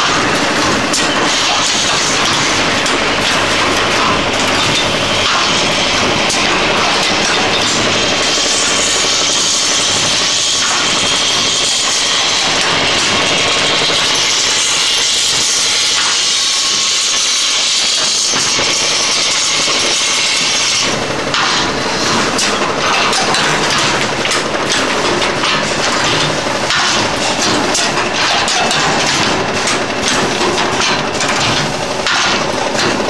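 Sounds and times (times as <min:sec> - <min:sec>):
machine hissing: 0:00.0 - 0:33.0
machine mechanical din: 0:00.0 - 0:33.0
machine rattling clatter: 0:00.0 - 0:33.0.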